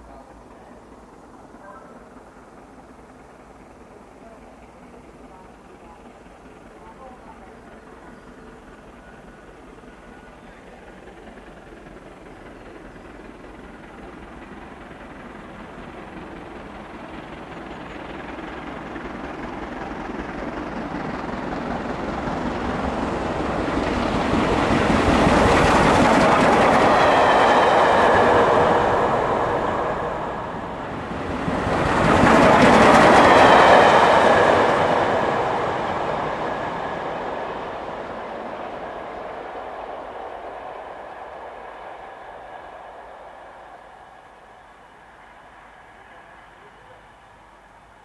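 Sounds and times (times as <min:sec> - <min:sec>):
steam locomotive passing: 0:00.0 - 0:48.0.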